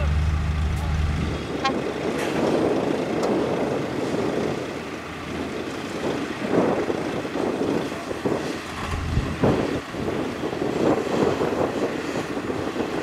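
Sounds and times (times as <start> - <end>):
dump truck engine running: 0.0 - 13.0
wind buffeting microphone: 0.5 - 13.0.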